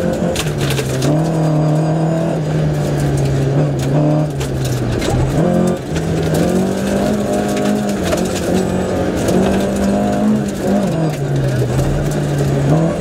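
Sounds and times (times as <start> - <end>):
gravel ticking against car: 0.0 - 13.0
rally car engine revving: 0.0 - 13.0.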